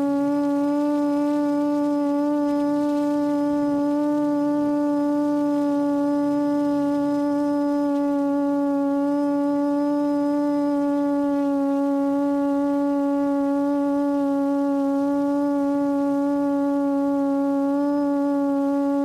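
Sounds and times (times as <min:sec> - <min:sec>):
quadcopter motors hovering: 0:00.0 - 0:19.0.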